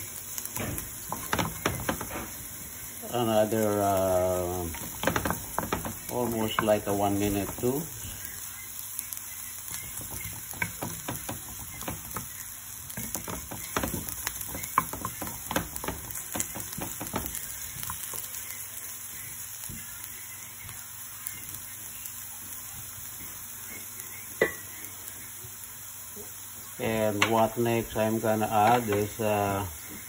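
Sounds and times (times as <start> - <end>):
garlic sizzling in a pan: 0.0 - 30.0.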